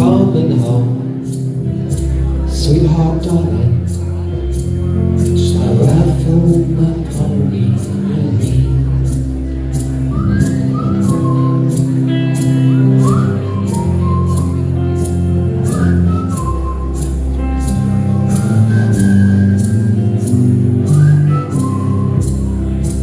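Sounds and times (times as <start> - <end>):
live band playing country music: 0.0 - 23.0
sliding lead melody: 0.0 - 23.0
sustained bass notes: 0.0 - 23.0.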